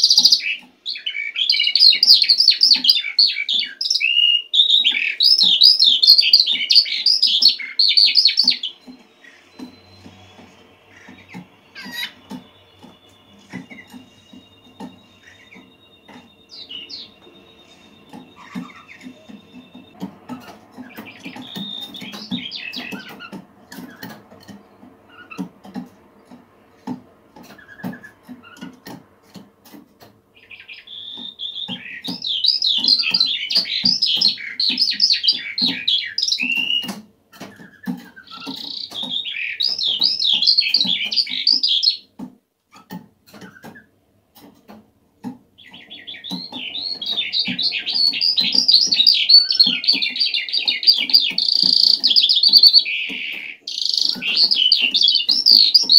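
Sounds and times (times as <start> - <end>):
skylark singing: 0.0 - 26.4, 30.0 - 42.1, 45.6 - 55.9.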